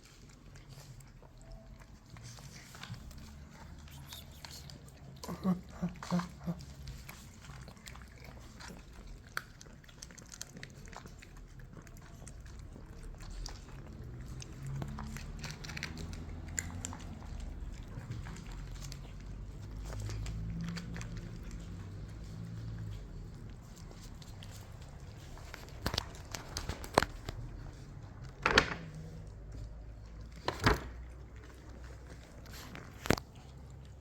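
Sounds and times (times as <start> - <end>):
kittens chewing and biting: 0.0 - 34.0.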